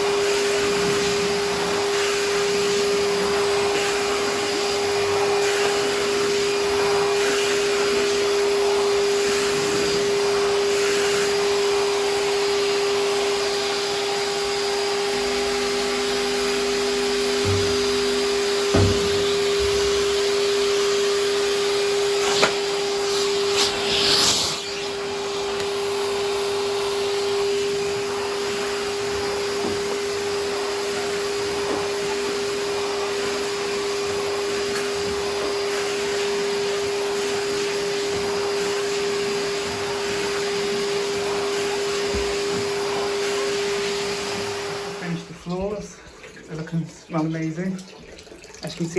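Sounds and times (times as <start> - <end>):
vacuum sucking noise: 0.0 - 45.9
vacuum cleaner motor hum: 0.0 - 46.4.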